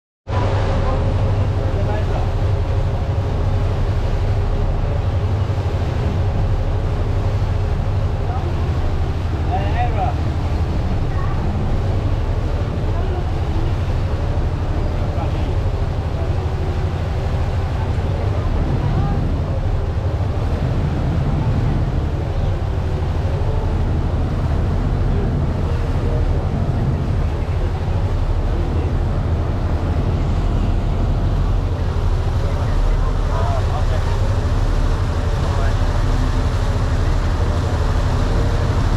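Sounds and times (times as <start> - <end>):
boat engines droning: 0.3 - 38.9
churning wake rushing: 0.3 - 38.9
wind on microphone: 0.3 - 38.9.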